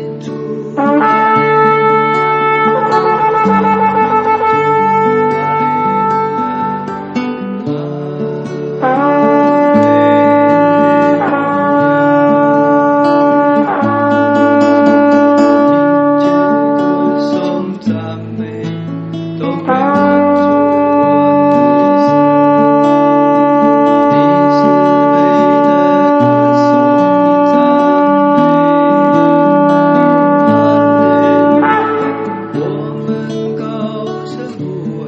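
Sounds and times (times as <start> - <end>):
plucked guitar: 0.0 - 35.0
horn holding long note: 0.7 - 7.7, 8.8 - 17.8, 19.5 - 33.4
bass line: 0.8 - 7.2, 8.8 - 17.4, 19.5 - 33.4.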